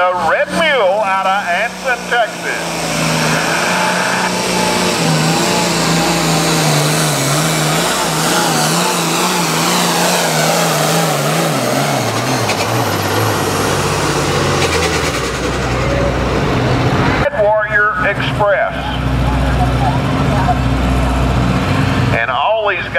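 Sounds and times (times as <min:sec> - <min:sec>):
tractor diesel engine at full throttle: 0:00.0 - 0:22.9.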